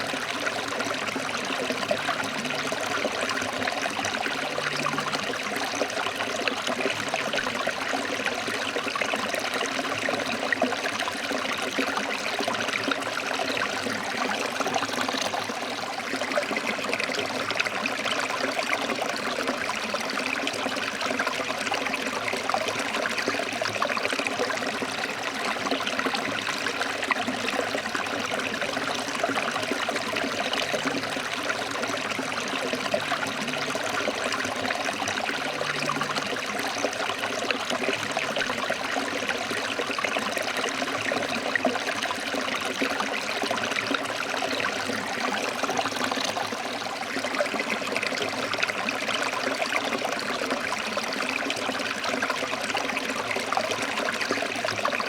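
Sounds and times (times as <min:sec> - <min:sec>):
stream water flowing over rocks: 0:00.0 - 0:55.0.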